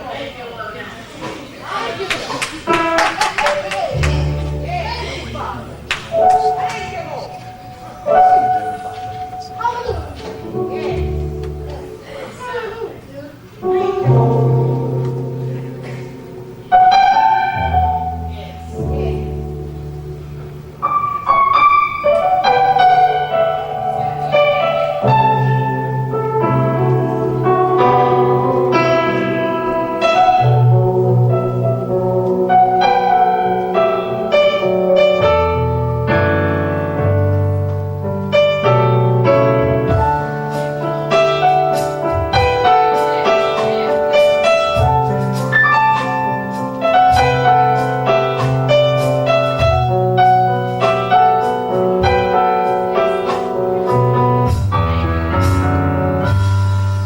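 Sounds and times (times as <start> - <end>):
piano playing: 1.6 - 57.0.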